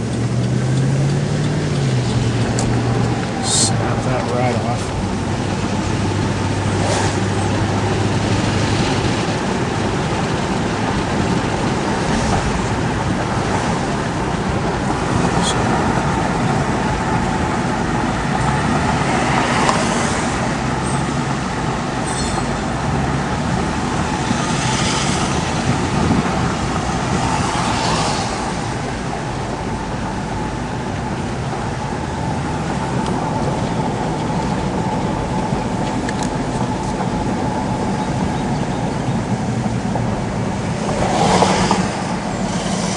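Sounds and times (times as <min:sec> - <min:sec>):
road traffic noise: 0:00.0 - 0:42.9.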